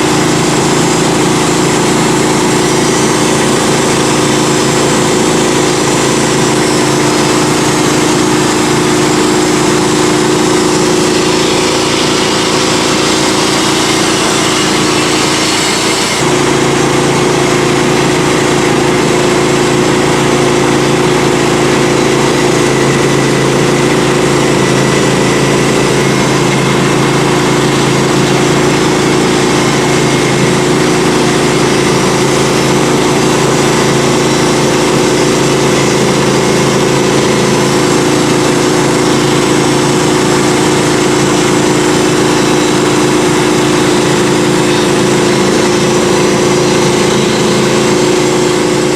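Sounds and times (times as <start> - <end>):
band sawmill running: 0.0 - 48.9.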